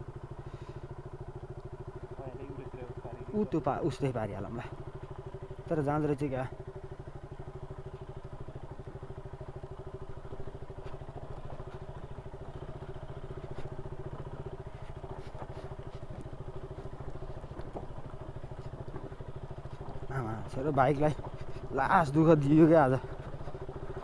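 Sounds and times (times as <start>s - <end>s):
motorcycle engine running at low revs: 0.0s - 24.0s.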